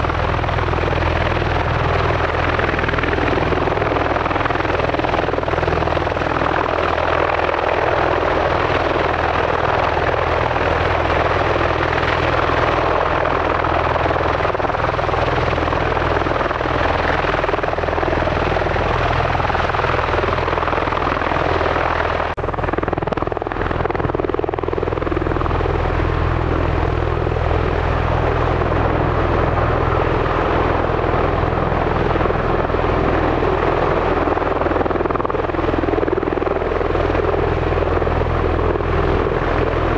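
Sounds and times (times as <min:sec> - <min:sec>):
tiltrotor aircraft engine roar: 0:00.0 - 0:39.9.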